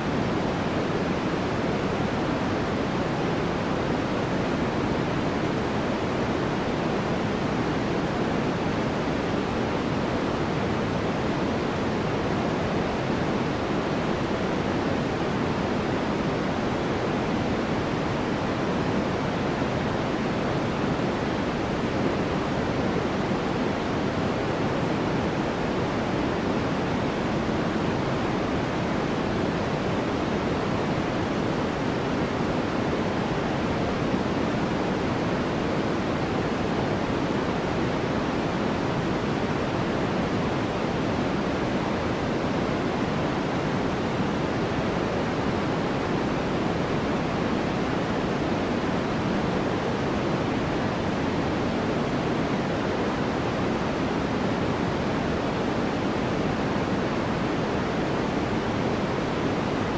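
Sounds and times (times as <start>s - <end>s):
steady low-pitched noise hiss: 0.0s - 59.9s.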